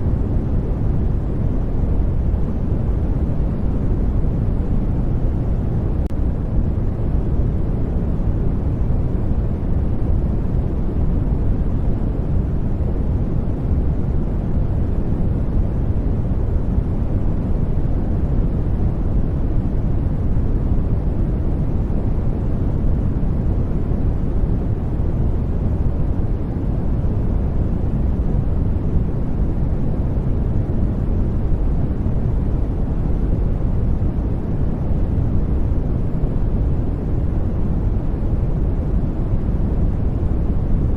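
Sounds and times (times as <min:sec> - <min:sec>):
low white noise rumble: 0:00.0 - 0:40.9.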